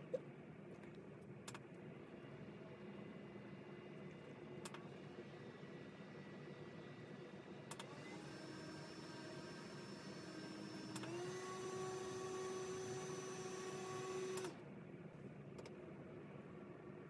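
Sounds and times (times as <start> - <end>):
desk fan motor whine: 1.8 - 17.0.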